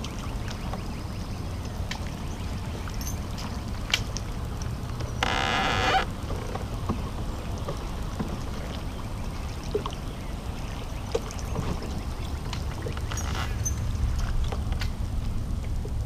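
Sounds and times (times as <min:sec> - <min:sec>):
low steady rumble: 0:00.0 - 0:16.0
water lapping against hull: 0:00.0 - 0:16.0.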